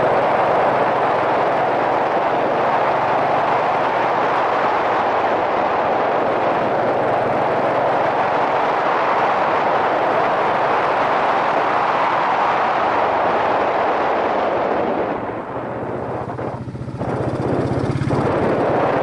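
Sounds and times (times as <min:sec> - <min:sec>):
motorcycle engine running: 0:00.0 - 0:11.9, 0:14.7 - 0:19.0
wind rushing over helmet: 0:00.0 - 0:19.0.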